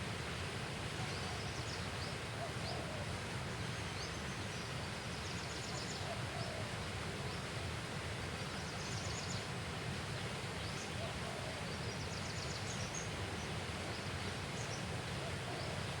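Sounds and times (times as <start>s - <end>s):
background hiss and rumble: 0.0s - 16.0s.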